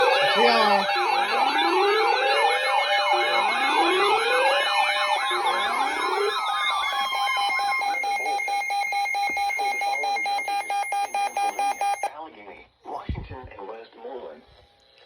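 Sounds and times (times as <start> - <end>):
electronic sirens wailing: 0.0 - 12.1.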